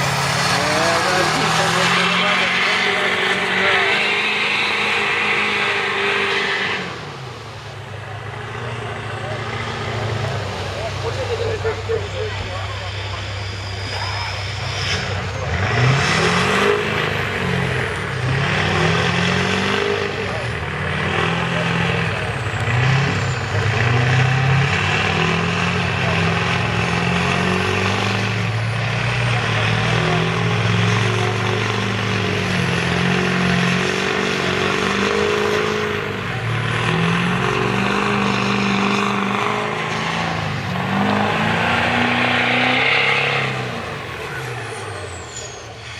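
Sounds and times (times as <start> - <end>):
diesel truck engine revving: 0.0 - 45.9.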